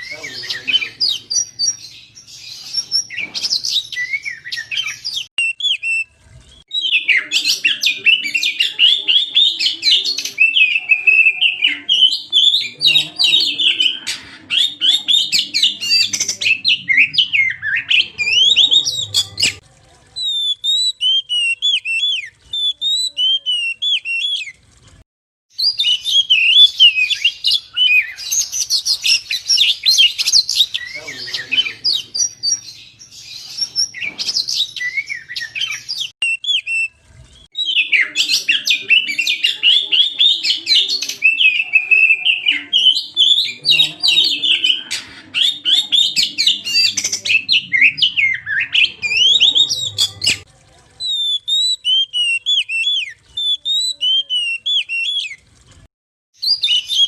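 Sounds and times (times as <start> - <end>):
bird singing chirps and whistles: 0.0 - 19.6, 20.2 - 24.5, 25.6 - 36.9, 37.5 - 50.4, 51.0 - 55.4, 56.4 - 57.0.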